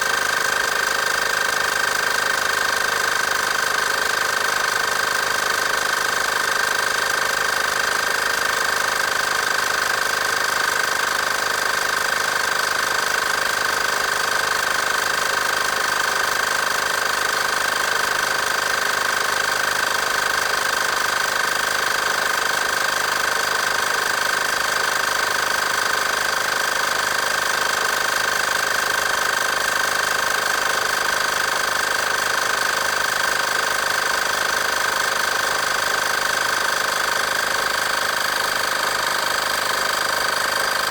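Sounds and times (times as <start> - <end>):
air compressor pump chattering: 0.0 - 40.9.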